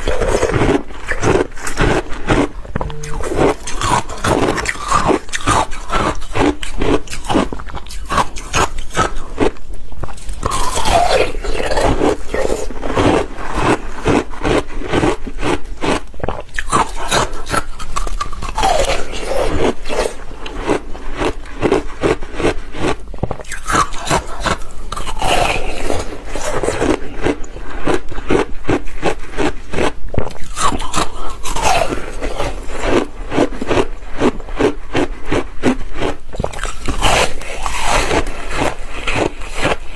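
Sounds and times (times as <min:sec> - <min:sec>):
ice being bitten and chewed: 0:00.0 - 0:39.9.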